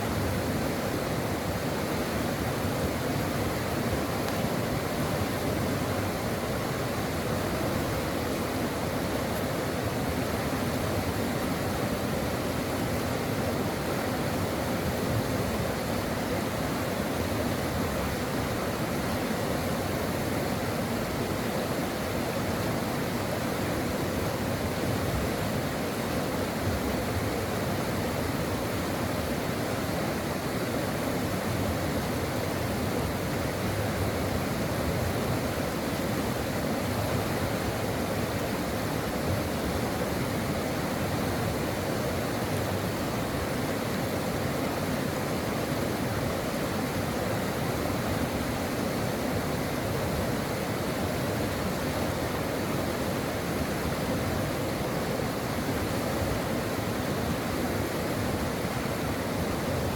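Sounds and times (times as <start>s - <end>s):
brook water flowing: 0.0s - 59.9s.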